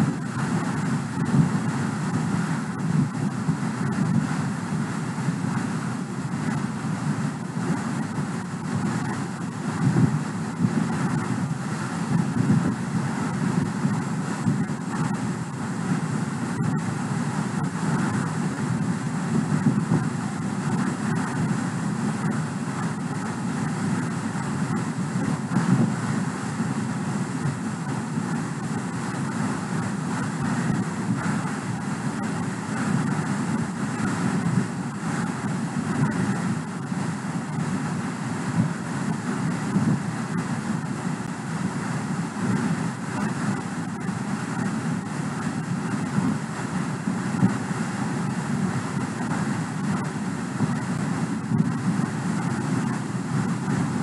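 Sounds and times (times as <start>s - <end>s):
steady rushing background noise: 0.0s - 54.0s.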